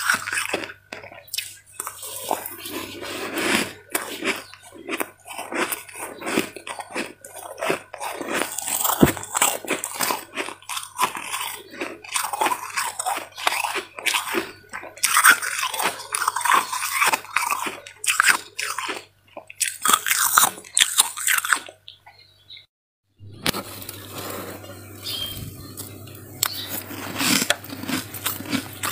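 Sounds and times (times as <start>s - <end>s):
frost being chewed crunching: 0.0s - 22.0s, 23.2s - 28.9s.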